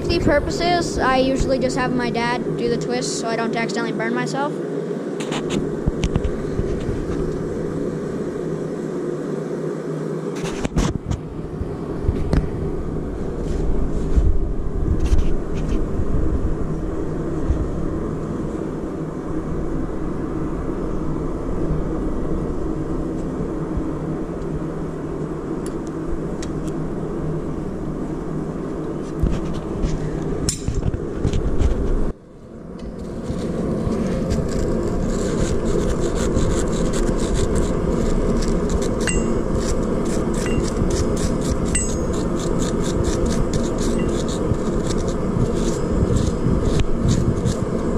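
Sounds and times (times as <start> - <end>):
forge roaring: 4.6 - 47.9.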